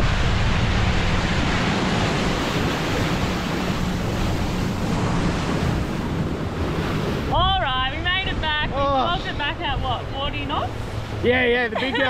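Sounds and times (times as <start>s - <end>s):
wind buffeting the microphone: 0.0s - 11.3s
steady low hum: 0.0s - 12.0s
water rushing past a boat hull: 0.0s - 12.0s.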